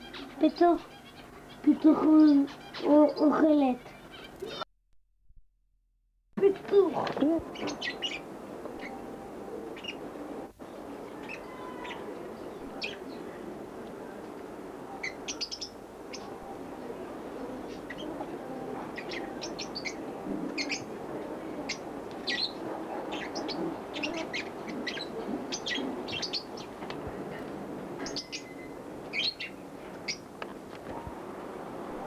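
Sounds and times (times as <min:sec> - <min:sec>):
small birds chirping: 0:00.0 - 0:04.6, 0:06.4 - 0:13.6, 0:14.9 - 0:31.2.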